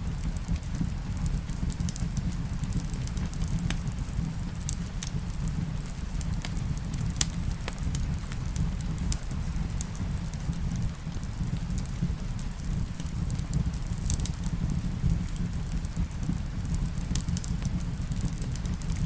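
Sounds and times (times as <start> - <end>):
low rumble: 0.0 - 19.0
rain hissing: 0.0 - 19.0
wood fire crackling: 0.0 - 19.0.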